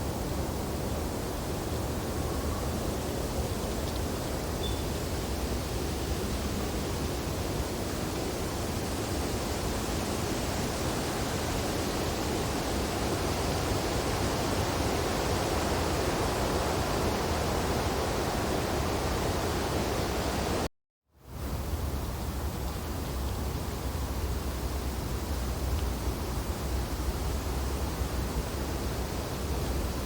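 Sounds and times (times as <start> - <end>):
wind through tree branches: 0.0 - 30.0.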